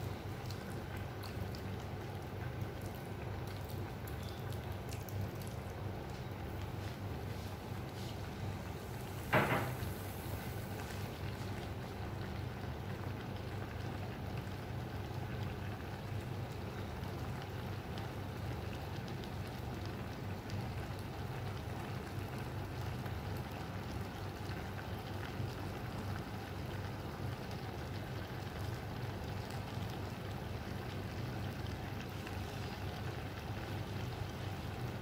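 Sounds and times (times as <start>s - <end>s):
food simmering in pan: 0.0s - 35.0s.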